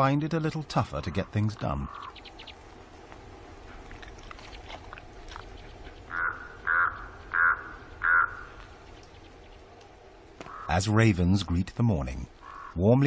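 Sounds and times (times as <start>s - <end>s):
raven croaking: 0.8s - 9.7s, 10.3s - 13.0s.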